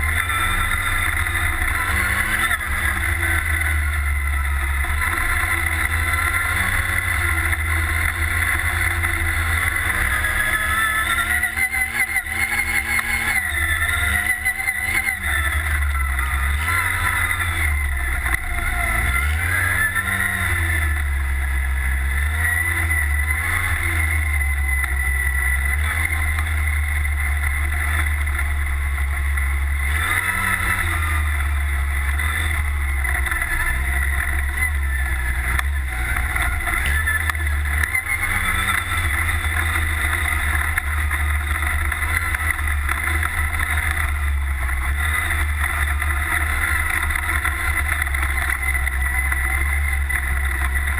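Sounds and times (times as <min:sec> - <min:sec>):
buggy engine revving: 0:00.0 - 0:50.9.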